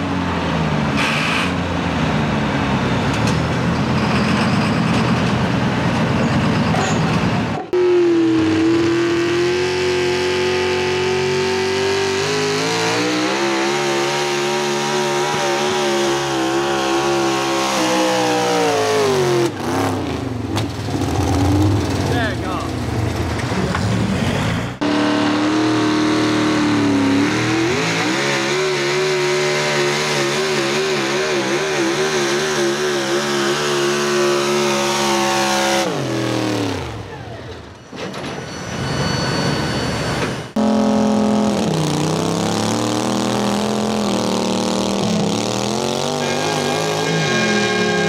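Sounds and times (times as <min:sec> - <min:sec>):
truck engine at high revs: 0:00.0 - 0:37.9, 0:39.1 - 0:48.0
tractor engine rumbling: 0:00.0 - 0:48.0.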